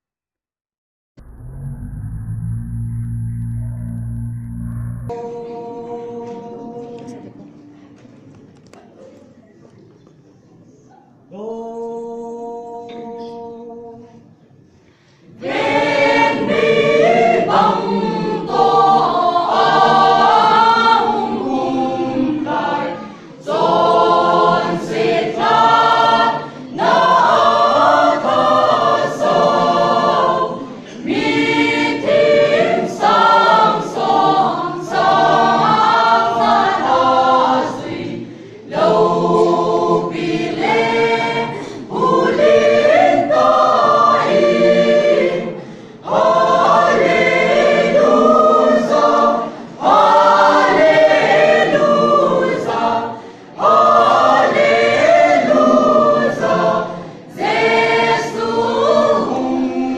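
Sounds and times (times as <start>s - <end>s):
mixed choir singing unaccompanied: 5.0s - 7.6s, 11.3s - 14.4s, 15.2s - 59.9s.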